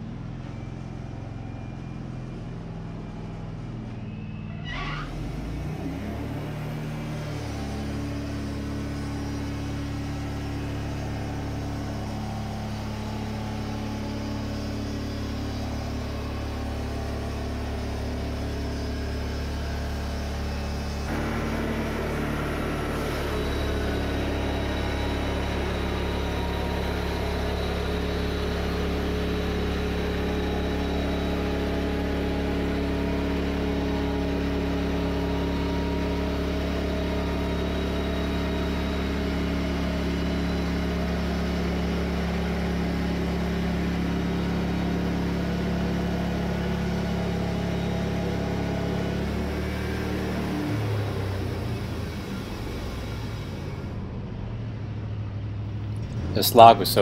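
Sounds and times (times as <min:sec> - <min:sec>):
band sawmill cutting log: 0:05.0 - 0:53.9.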